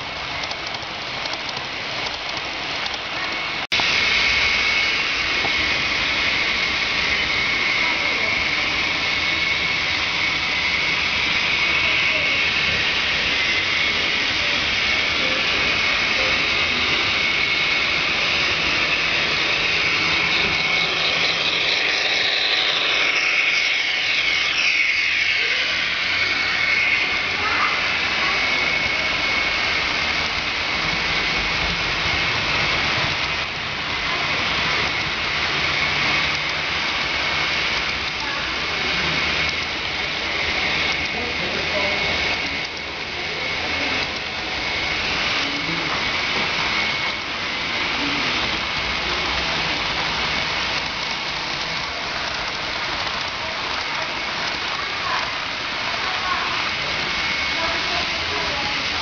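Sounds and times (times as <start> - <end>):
high steady whine: 0.0 - 59.0
model train wheels rumbling on rail: 0.0 - 59.0.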